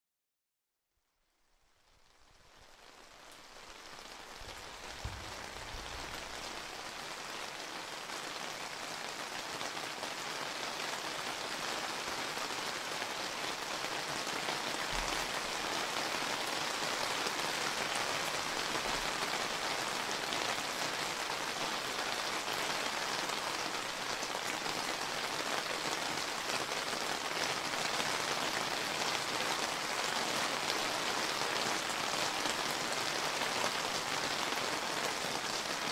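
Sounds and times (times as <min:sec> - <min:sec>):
rain falling on surfaces: 0:01.4 - 0:35.9.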